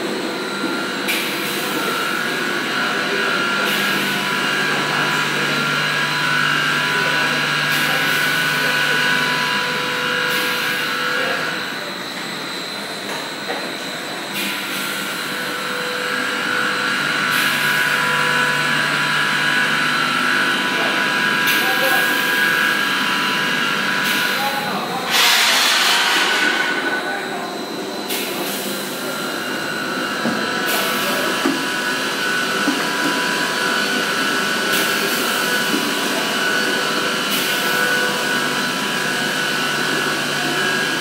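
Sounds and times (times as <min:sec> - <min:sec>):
conveyor machine whir: 0:00.0 - 0:41.0.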